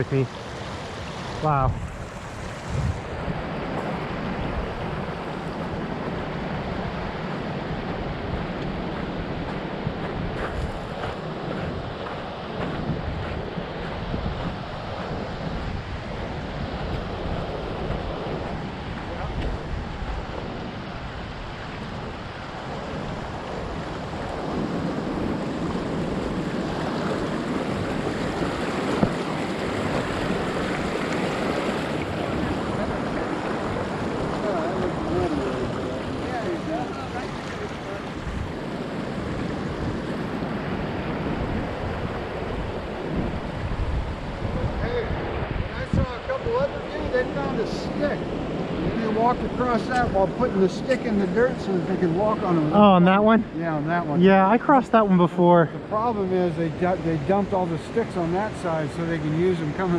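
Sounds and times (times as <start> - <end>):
wind on microphone: 0.0 - 54.2
creek rushing: 0.0 - 59.9
surf roaring: 0.0 - 59.9.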